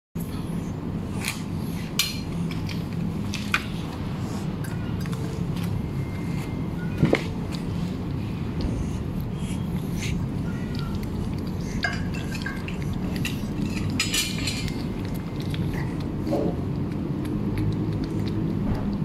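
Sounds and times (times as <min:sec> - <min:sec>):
cat licking and chewing: 0:00.2 - 0:19.0
low background hum: 0:00.2 - 0:19.0.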